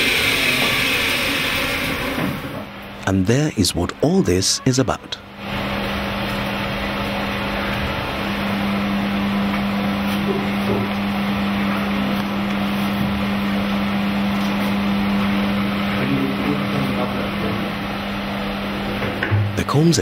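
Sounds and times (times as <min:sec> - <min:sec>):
honey extractor motor hum: 0:00.0 - 0:02.9, 0:05.3 - 0:20.0.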